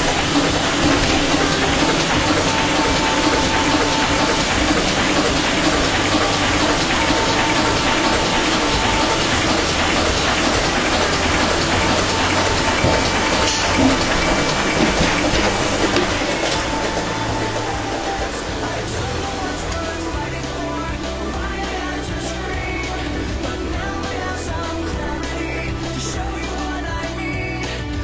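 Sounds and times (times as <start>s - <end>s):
low hum: 0.0s - 27.5s.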